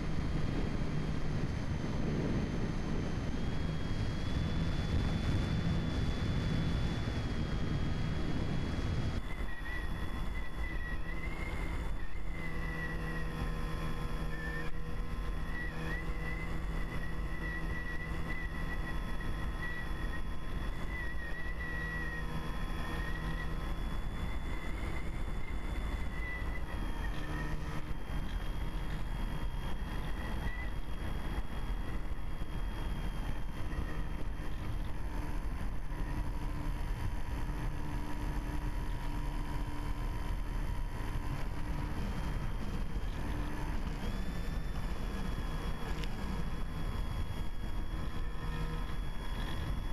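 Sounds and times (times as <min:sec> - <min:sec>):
electric motor and propeller whine: 0:00.0 - 0:49.9
wind rush over microphone: 0:00.0 - 0:49.9.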